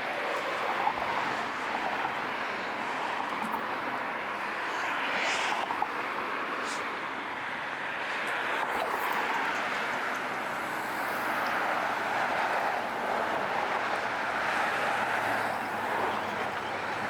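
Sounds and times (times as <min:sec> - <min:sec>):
street traffic rushing: 0:00.0 - 0:17.0.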